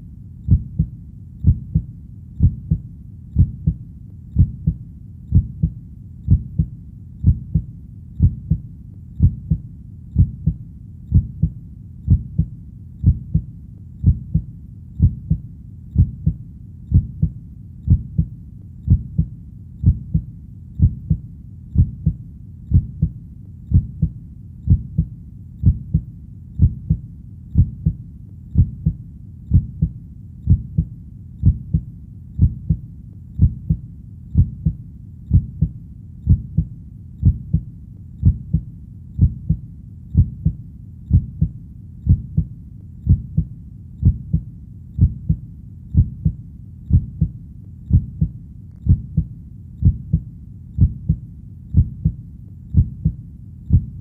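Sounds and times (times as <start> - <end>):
faint low rumble: 0.0 - 54.0
heartbeat: 0.0 - 54.0.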